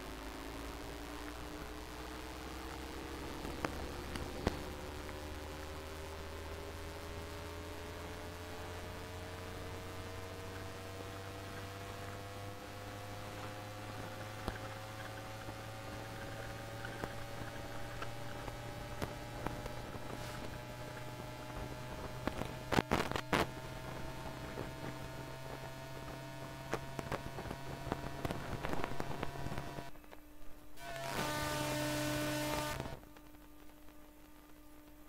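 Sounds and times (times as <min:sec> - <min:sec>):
rising traction inverter tones: 0:00.0 - 0:33.4
low hum: 0:00.0 - 0:35.0.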